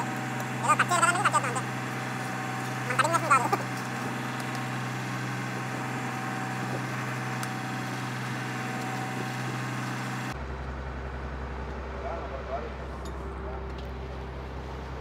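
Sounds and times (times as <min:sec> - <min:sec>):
boat diesel engine running: 0:00.0 - 0:15.0.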